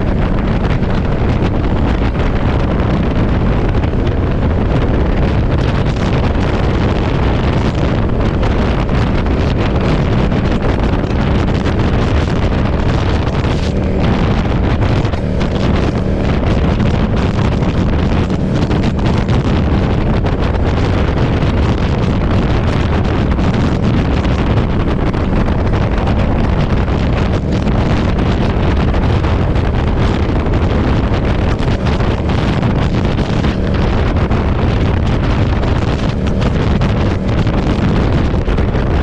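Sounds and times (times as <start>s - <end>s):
motorcycle engine running: 0.0s - 39.0s
wind buffeting microphone: 0.0s - 39.0s.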